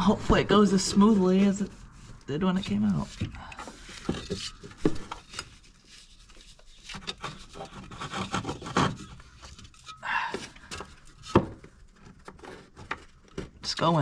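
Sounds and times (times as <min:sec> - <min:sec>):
rubbing and scraping: 0:00.0 - 0:14.0.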